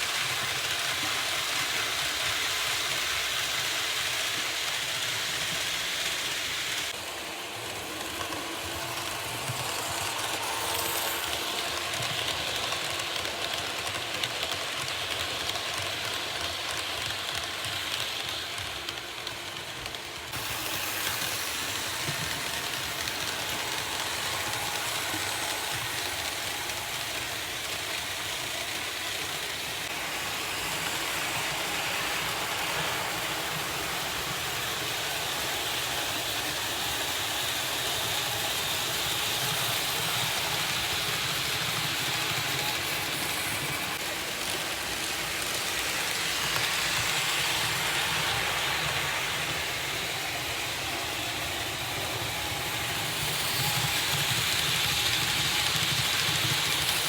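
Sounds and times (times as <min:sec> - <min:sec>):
model train motor whirring: 0:00.0 - 0:57.0.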